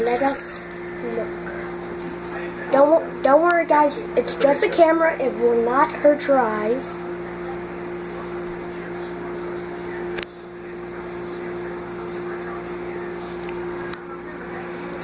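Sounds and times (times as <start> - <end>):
microwave fan whirring: 0.0 - 15.0
microwave oven humming: 0.0 - 15.0.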